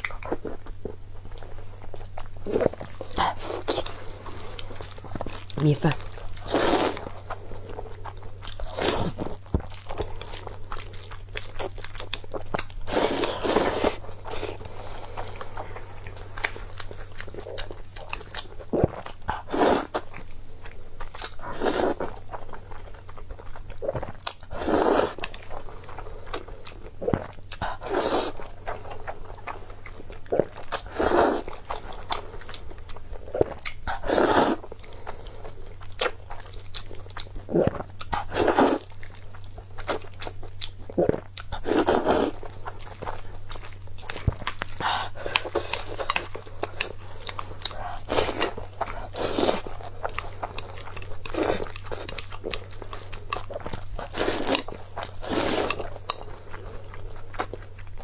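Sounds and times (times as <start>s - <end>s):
low steady hum: 0.0s - 58.0s
person chewing: 0.0s - 58.0s.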